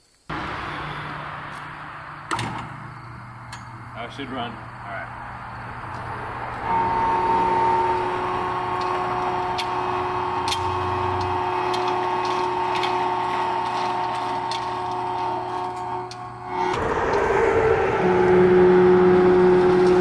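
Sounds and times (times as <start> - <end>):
electric motor whining: 0.3 - 20.0.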